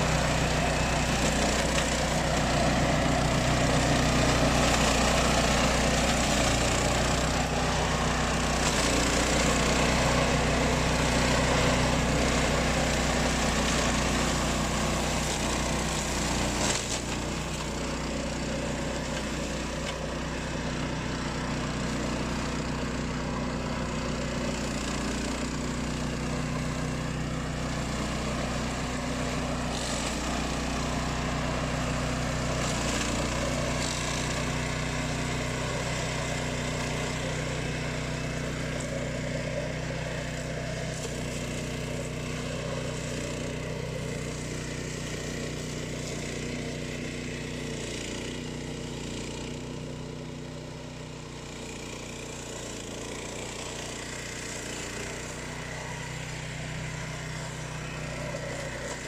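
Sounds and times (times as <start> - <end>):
mower engine running: 0.0 - 59.0.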